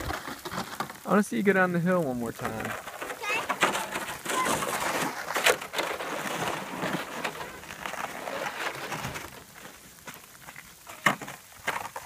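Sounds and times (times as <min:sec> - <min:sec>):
crunching on icy snow: 0:00.0 - 0:12.0.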